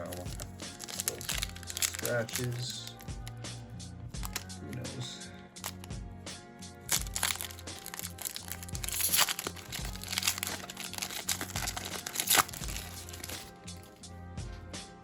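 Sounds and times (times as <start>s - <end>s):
card wrapper tearing and crinkling: 0.0s - 3.4s, 4.2s - 6.0s, 6.8s - 14.0s
background music: 0.0s - 15.0s.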